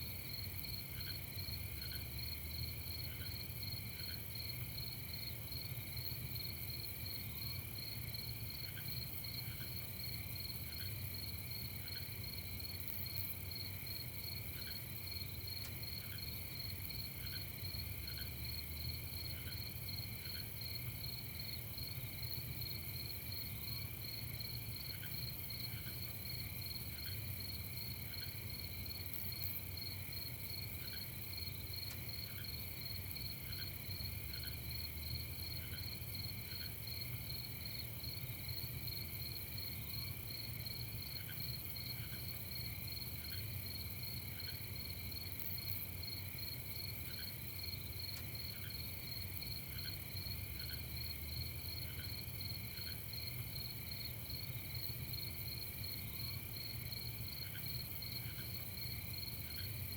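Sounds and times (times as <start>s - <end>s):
crickets trilling: 0.2s - 59.9s.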